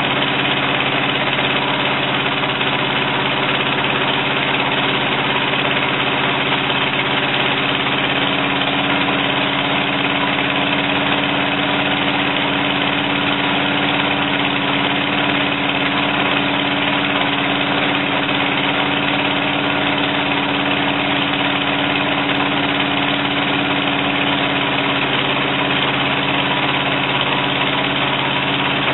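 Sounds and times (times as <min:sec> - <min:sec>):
small engine idling: 0:00.0 - 0:28.9.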